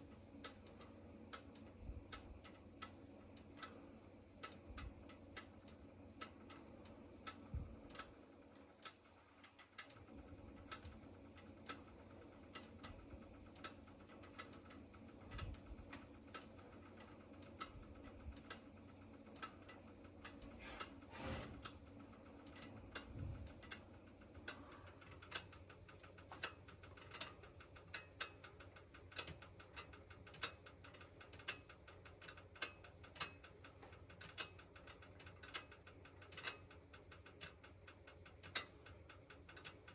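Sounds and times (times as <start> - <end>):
oven igniter clicking: 0.0 - 39.9.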